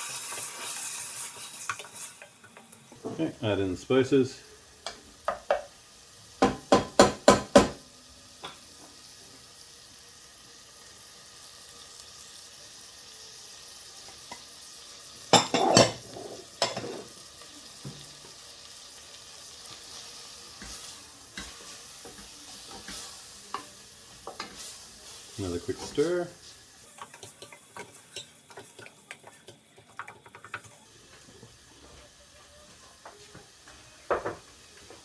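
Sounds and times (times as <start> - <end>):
onions sizzling in a pan: 0.0 - 35.0.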